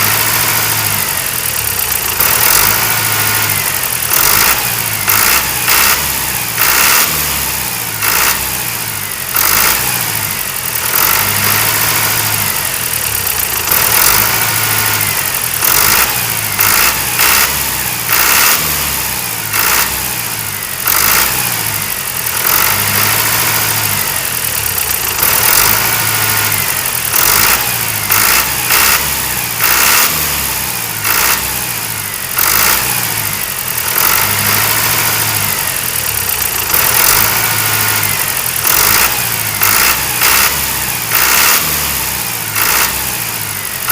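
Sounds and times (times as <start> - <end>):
engine running with surges: 0.0 - 43.9.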